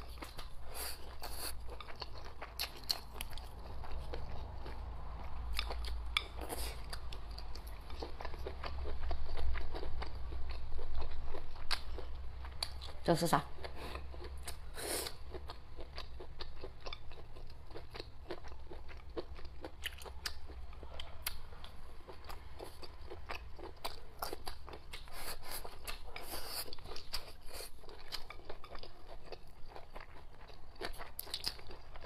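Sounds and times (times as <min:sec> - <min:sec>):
chewing crunchy food: 0:00.0 - 0:32.0.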